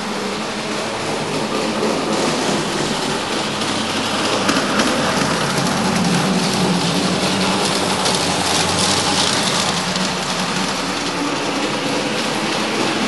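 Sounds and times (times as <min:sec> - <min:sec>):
model tram whirring on track: 0:00.0 - 0:13.0.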